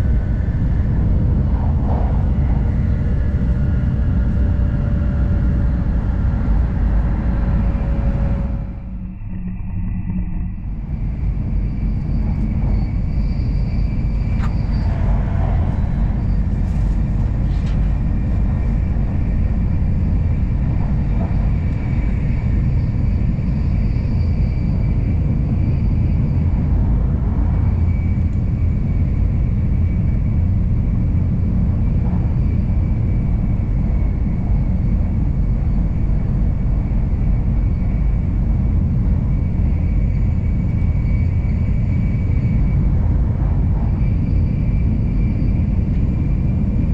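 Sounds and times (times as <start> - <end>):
faint high whine: 0.0 - 46.9
train low rumble: 0.0 - 46.9.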